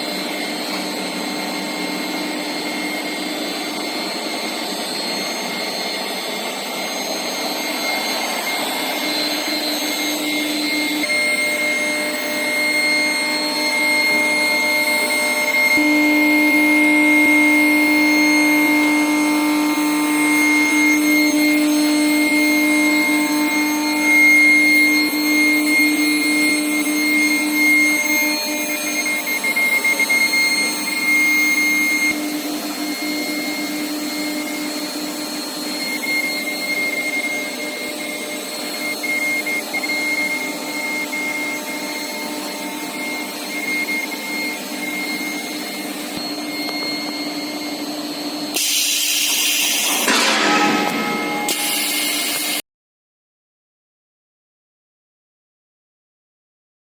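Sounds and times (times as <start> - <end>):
steady machine hum with whine: 0.0 - 52.6.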